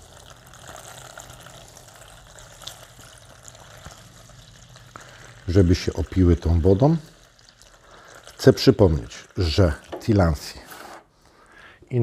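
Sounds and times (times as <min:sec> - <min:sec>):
faint water drips: 0:00.0 - 0:10.6
water pouring into plate: 0:00.0 - 0:10.6.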